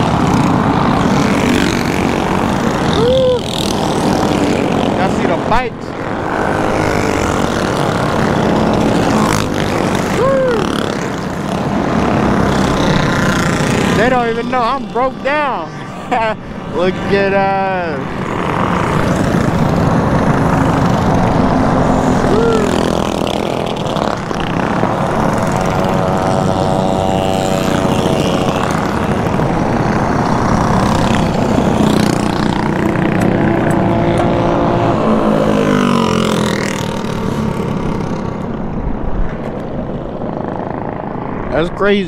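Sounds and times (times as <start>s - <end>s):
mini bike engines revving: 0.0s - 42.0s.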